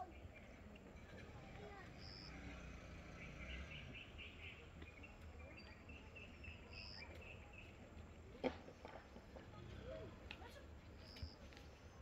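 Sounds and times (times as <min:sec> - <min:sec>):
faint outdoor ambience: 0:00.0 - 0:12.0.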